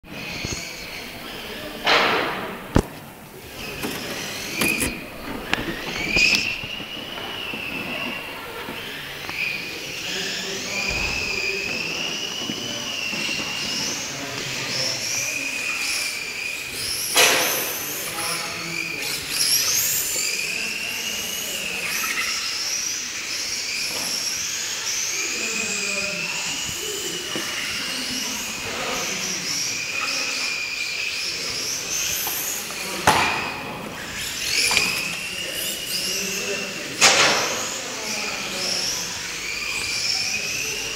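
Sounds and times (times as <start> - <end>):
toy car electric motor whining: 3.4 - 40.9.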